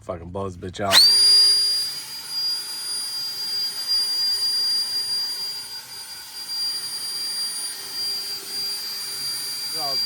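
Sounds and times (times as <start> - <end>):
electric blower high-pitched whine: 0.9 - 10.0.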